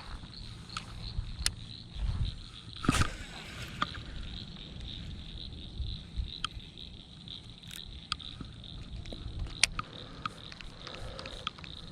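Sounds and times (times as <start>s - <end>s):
insect buzz: 0.0s - 11.9s
low wind rumble: 0.0s - 11.9s.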